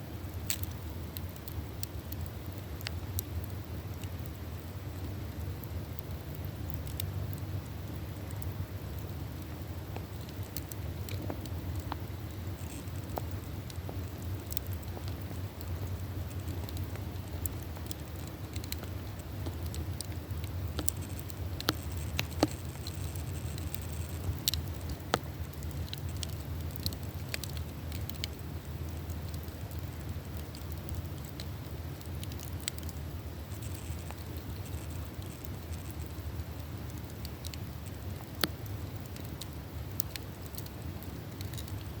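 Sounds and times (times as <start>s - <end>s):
campfire crackling and popping: 0.0s - 42.0s
low rush of fire: 0.0s - 42.0s.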